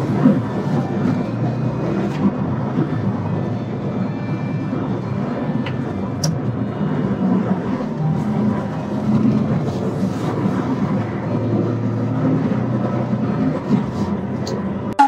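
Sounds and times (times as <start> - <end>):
heavy truck engine and road noise: 0.0 - 15.0.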